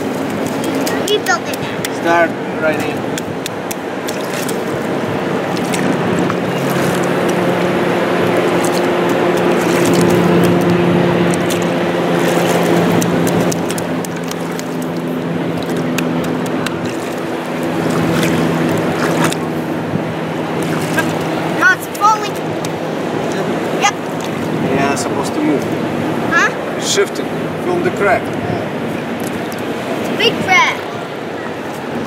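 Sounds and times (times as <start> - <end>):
low engine hum: 0.0 - 32.0
surf: 0.0 - 32.0
wind: 0.0 - 32.0.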